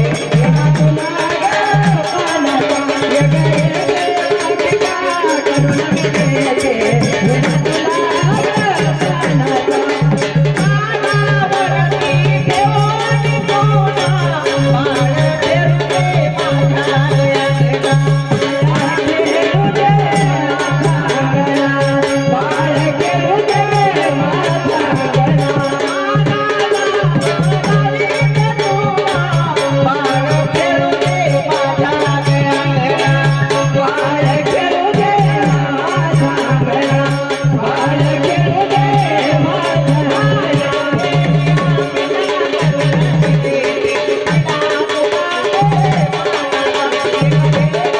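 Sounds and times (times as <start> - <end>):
jingling rattle percussion: 0.0 - 47.9
person singing folk song: 0.0 - 47.9
steady drum beat: 0.0 - 47.9.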